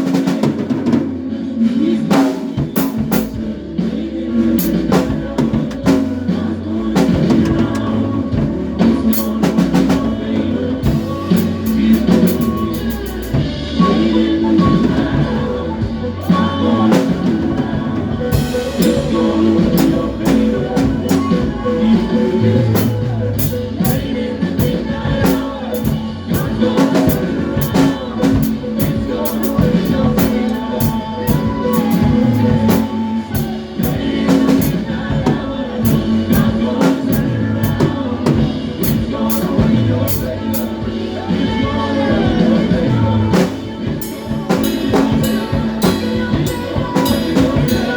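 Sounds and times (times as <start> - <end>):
drum kit beat: 0.0 - 47.9
gospel band playing: 0.0 - 47.9.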